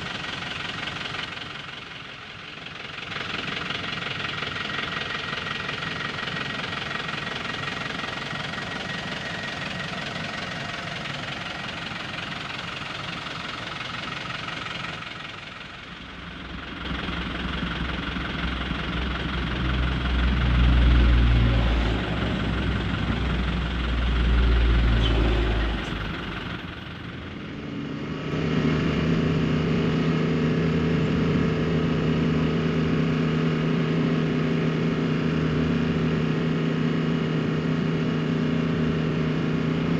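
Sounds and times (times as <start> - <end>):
truck engines running: 0.0 - 39.9.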